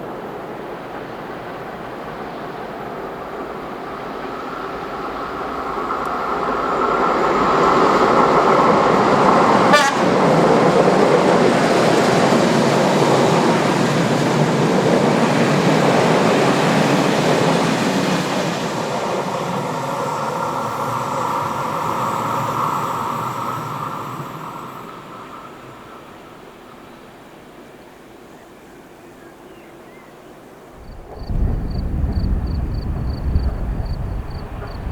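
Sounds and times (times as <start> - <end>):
train rolling rumble on rails: 0.0 - 27.7, 30.6 - 34.9.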